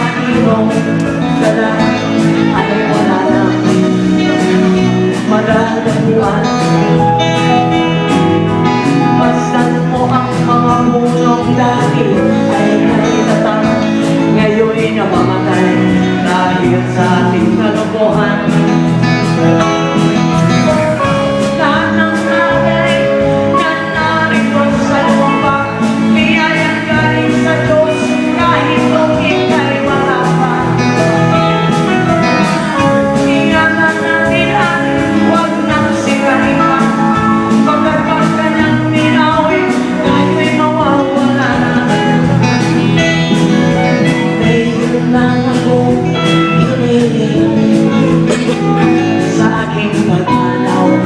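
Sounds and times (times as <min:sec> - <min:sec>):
live band with guitars: 0:00.0 - 0:51.0
steady drum beat: 0:00.0 - 0:51.0.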